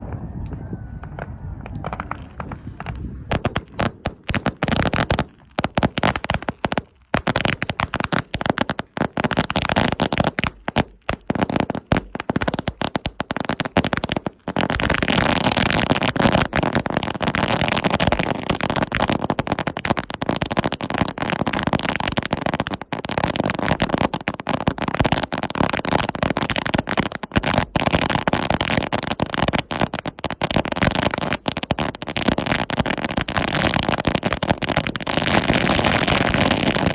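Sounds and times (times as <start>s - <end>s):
firecrackers banging and crackling: 1.0s - 36.9s.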